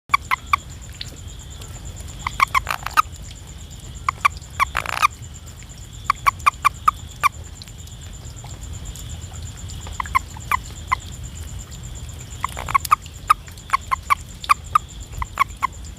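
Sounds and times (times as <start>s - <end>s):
frog croaking: 0.1s - 15.9s.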